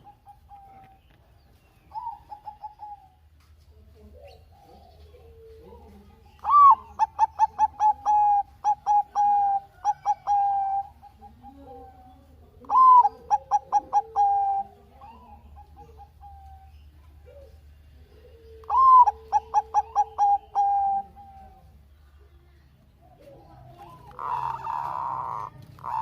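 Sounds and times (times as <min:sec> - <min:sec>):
dove cooing song: 0:00.0 - 0:26.0
faint low dove calls: 0:00.0 - 0:26.0.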